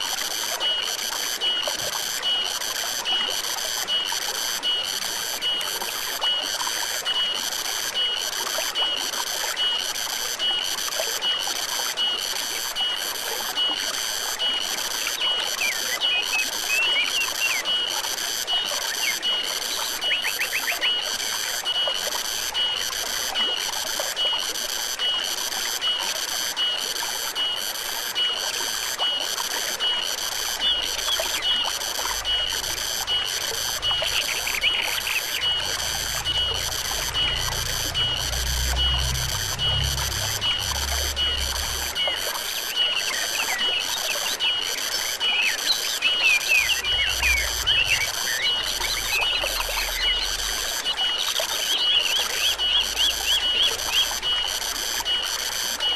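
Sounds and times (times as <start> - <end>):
stream water trickling: 0.0 - 55.9.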